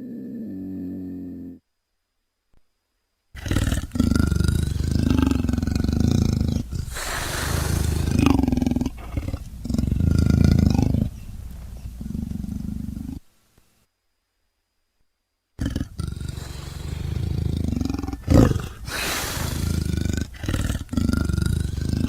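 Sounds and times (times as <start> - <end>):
big cat roars: 0.0 - 1.6, 3.4 - 13.2, 15.6 - 22.0.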